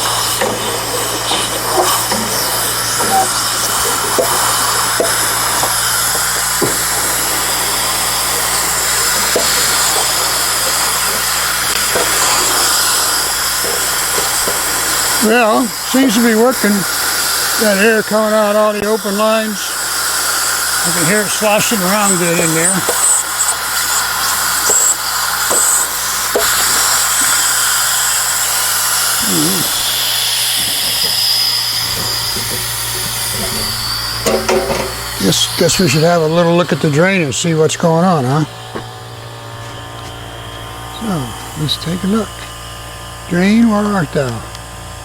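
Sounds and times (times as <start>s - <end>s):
liquid gurgling in a tank: 0.0s - 43.3s
compressed air hissing: 0.0s - 44.9s.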